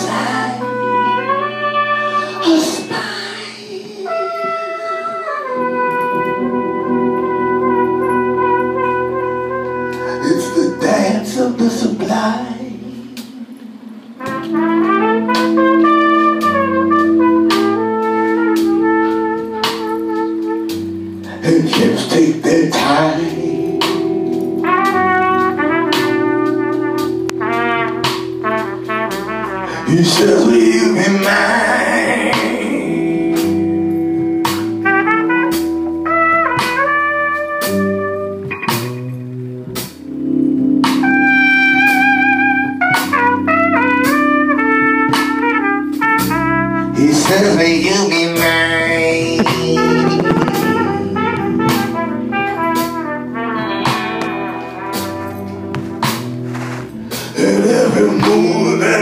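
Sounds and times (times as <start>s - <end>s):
trumpet melody: 0.0s - 13.2s, 14.1s - 59.0s
soul band playing: 0.0s - 59.0s.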